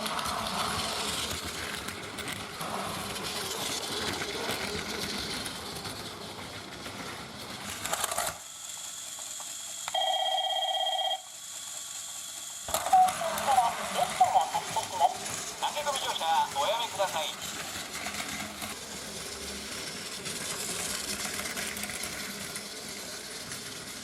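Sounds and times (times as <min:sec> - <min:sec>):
toy train whirring on plastic track: 0:00.0 - 0:24.0.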